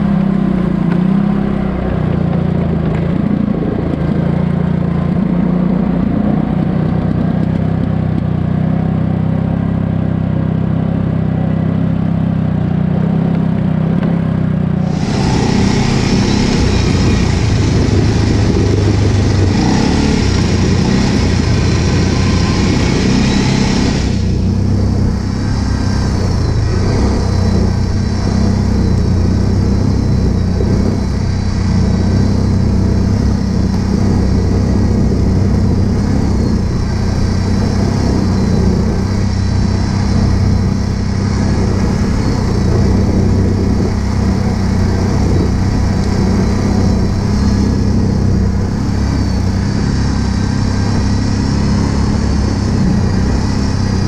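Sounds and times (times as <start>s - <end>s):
atv engine running steadily: 0.0s - 54.0s.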